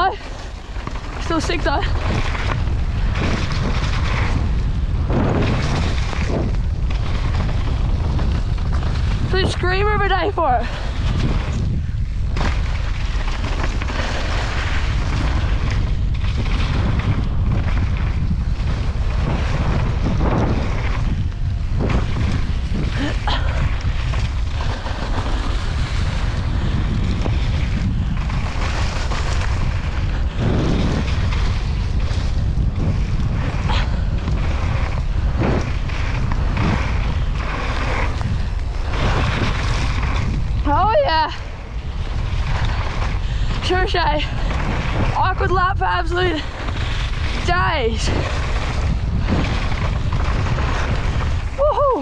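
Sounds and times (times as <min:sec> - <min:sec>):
bike knocks and rattles: 0:00.0 - 0:51.6
tyre and trail noise: 0:00.0 - 0:52.0
wind buffeting microphone: 0:00.0 - 0:52.0.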